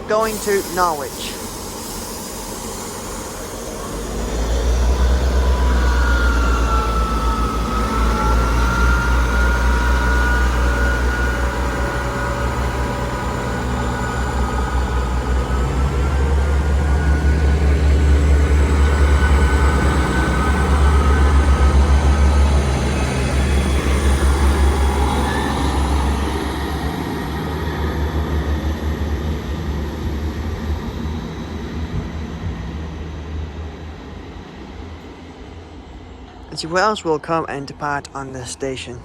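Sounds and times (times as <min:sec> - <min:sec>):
diesel train engines rumbling: 0:00.0 - 0:39.0.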